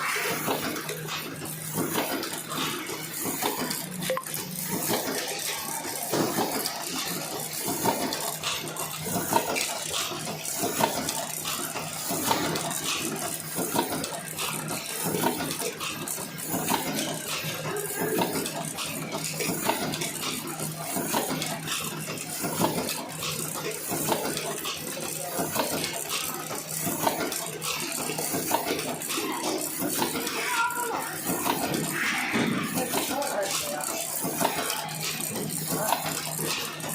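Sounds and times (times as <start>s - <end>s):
machine clattering: 0.2s - 36.9s.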